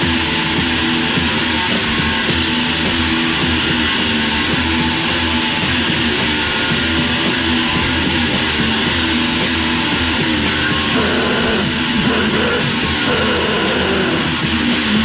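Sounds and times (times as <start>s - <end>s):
bass guitar: 0.0s - 15.0s
distorted electric guitar riffing: 0.0s - 15.0s.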